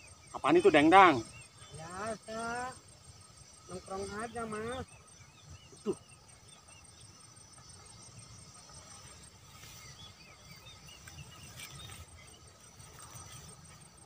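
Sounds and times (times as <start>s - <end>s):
small high chirps: 0.0s - 14.0s
thin high-pitched whine: 0.0s - 14.0s.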